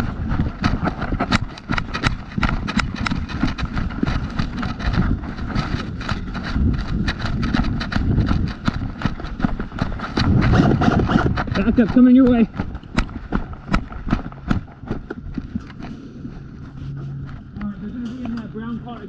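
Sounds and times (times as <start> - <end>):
gear jostling clicks: 0.0 - 16.0
footsteps on rough ground: 0.0 - 19.0
low rumble from camera mic: 0.0 - 19.0.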